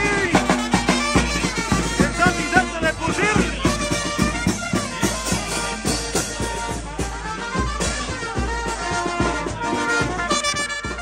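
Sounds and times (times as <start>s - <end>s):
bass drum beat: 0.0s - 11.0s
brass band playing: 0.0s - 11.0s
snare drum: 0.0s - 11.0s
trumpets and saxophones: 0.0s - 11.0s.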